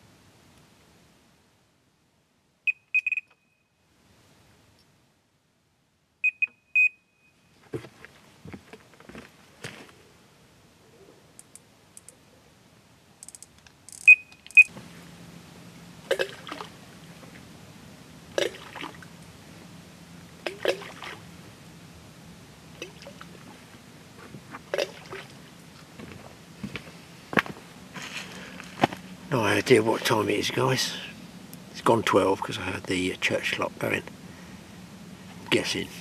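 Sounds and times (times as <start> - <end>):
steady low hum: 3.7 - 36.0.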